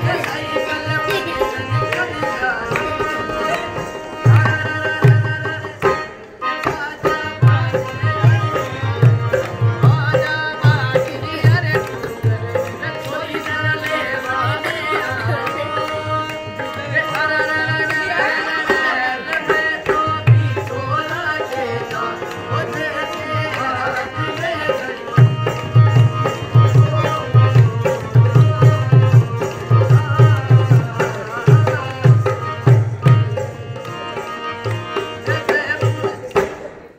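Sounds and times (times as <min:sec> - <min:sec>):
person singing: 0:00.0 - 0:33.5.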